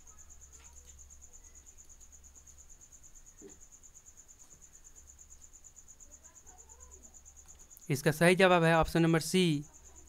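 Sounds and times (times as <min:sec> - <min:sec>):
faint cricket chirping: 0:00.0 - 0:10.0.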